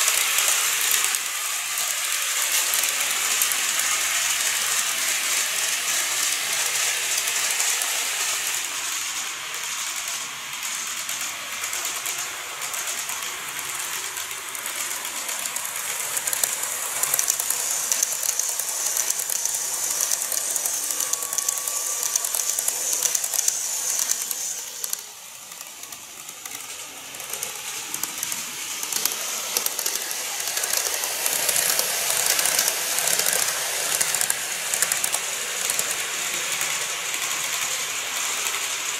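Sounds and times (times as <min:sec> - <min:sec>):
fine clicking of train wheels: 0:00.0 - 0:38.9
model trains hissing: 0:00.0 - 0:38.9.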